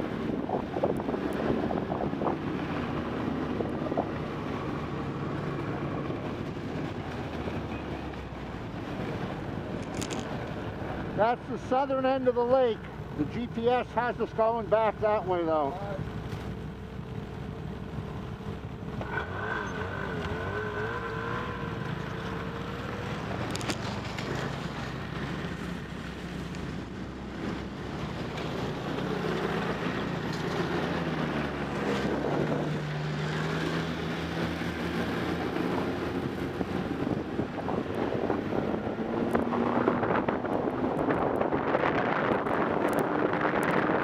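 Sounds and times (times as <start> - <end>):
snowmobile engines running: 0.0 - 44.0.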